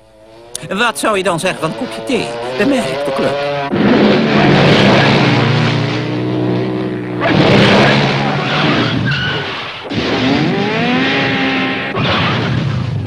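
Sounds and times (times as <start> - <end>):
motorbike engine revving: 0.0 - 12.6
cartoon skidding rush: 0.1 - 13.0.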